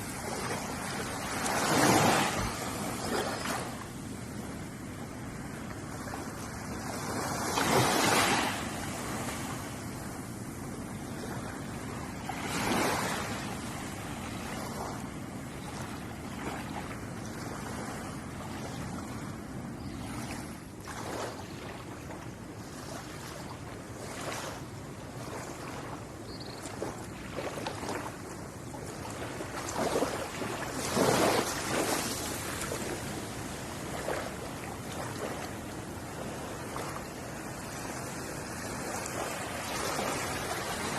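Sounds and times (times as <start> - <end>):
waves washing on shore: 0.0 - 40.9.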